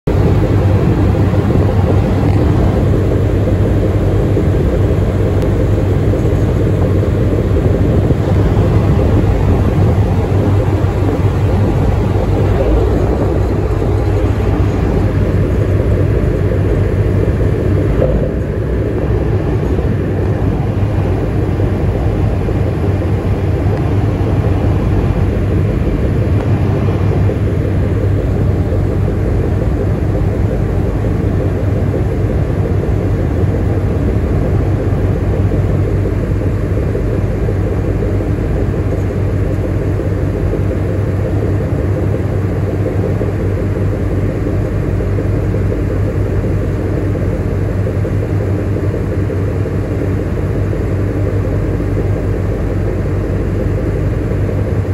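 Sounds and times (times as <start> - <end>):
ship engines rumbling: 0.0 - 54.9.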